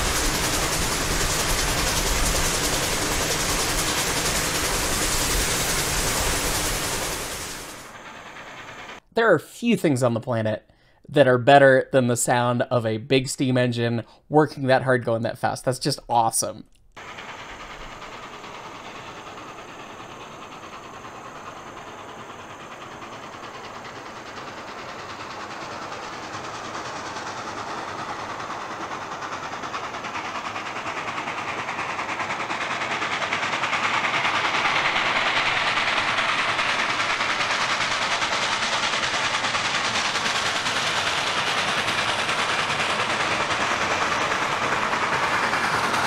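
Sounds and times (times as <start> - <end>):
steam locomotive exhaust: 0.0 - 46.0.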